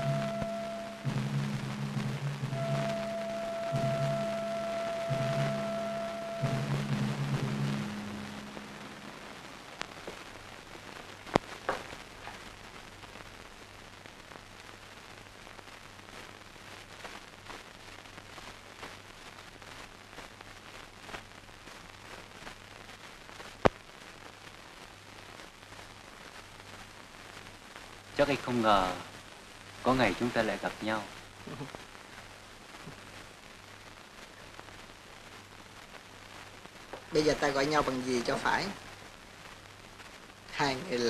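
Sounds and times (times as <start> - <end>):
film soundtrack hiss and crackle: 0.0 - 41.0.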